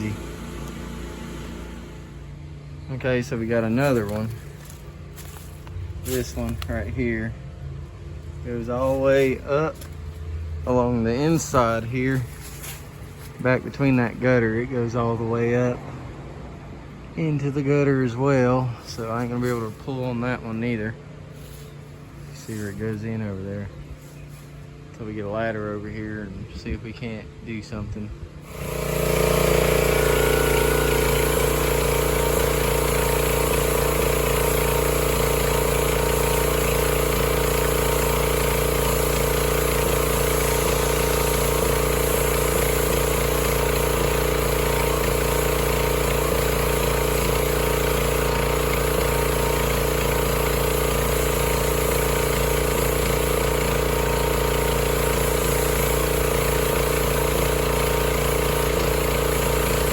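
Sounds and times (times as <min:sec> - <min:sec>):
small gasoline engine running: 0:00.0 - 0:15.8, 0:17.4 - 0:25.0, 0:28.3 - 0:59.9.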